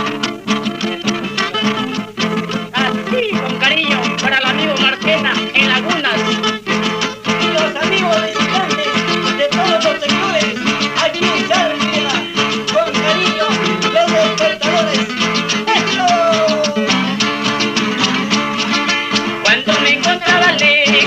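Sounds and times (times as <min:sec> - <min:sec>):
plucked strings: 0:00.0 - 0:21.0.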